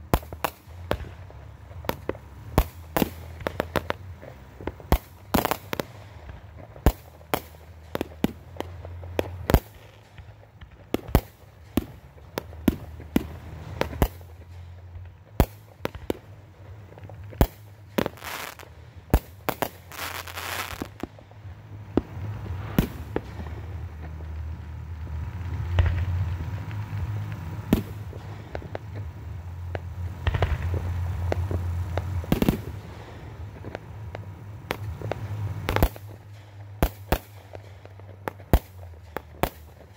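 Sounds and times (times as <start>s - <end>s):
firework shells bursting: 0.0s - 24.5s, 25.6s - 39.9s
fireworks crackling: 0.0s - 39.9s
low rumble: 0.0s - 39.9s.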